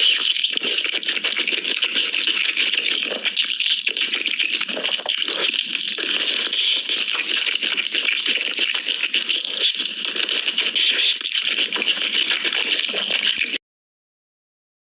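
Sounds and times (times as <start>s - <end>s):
crunching and chewing fried chicken: 0.0s - 13.6s.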